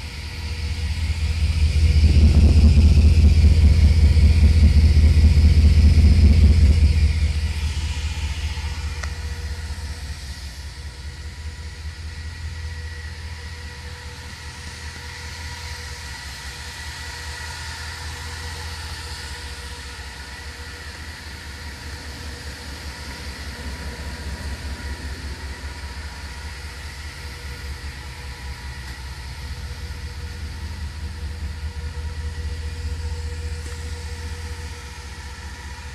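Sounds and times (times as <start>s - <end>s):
faint steady whine: 0.0s - 35.9s
vehicle engine idling: 0.0s - 35.9s.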